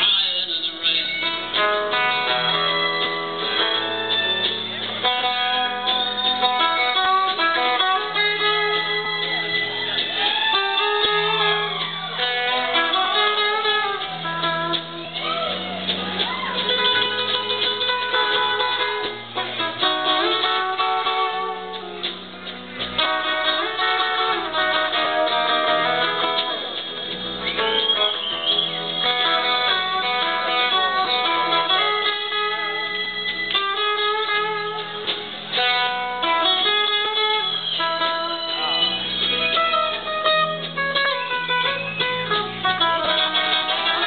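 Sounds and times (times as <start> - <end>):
guitar melody with bending notes: 0.0 - 44.0
low bass notes: 0.0 - 44.0.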